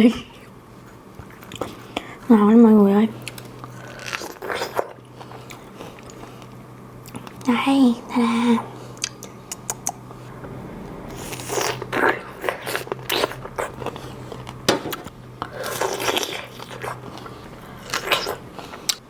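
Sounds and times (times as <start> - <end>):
wet chewing: 0.4 - 2.2, 3.2 - 7.5, 8.9 - 10.2, 11.1 - 19.0.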